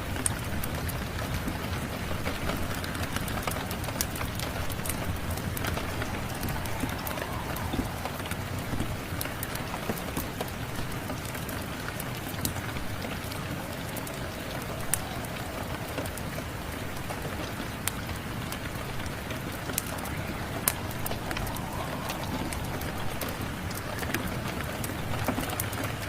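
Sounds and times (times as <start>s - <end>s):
steady rain: 0.0s - 26.0s
wood fire crackling and popping: 0.0s - 26.0s.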